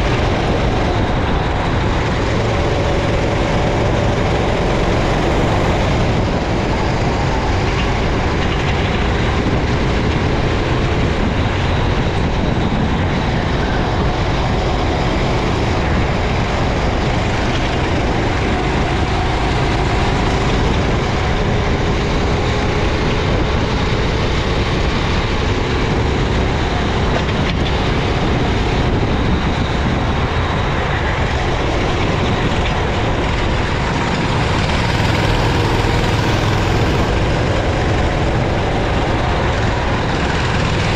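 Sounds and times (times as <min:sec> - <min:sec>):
racing kart engine: 0:00.0 - 0:40.9
wind and road noise: 0:00.0 - 0:40.9.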